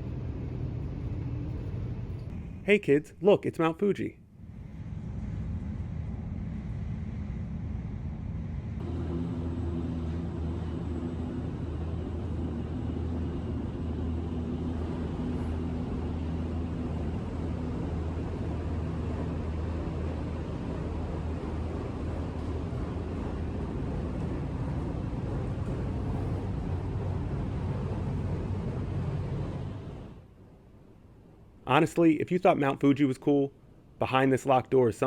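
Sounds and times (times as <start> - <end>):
train rumble from inside: 0.0 - 2.6, 4.4 - 30.3.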